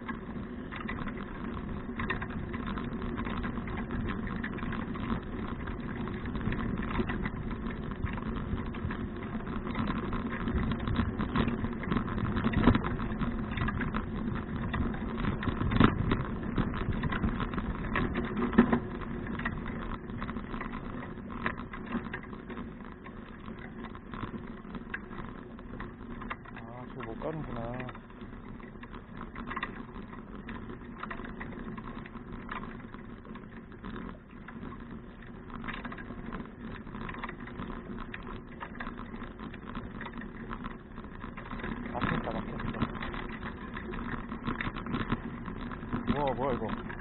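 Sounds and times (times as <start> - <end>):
bicycle jolts: 0.0 - 47.0
rumble of bicycle tyres: 0.0 - 47.0
small rattles: 0.0 - 47.0
wind: 0.0 - 47.0.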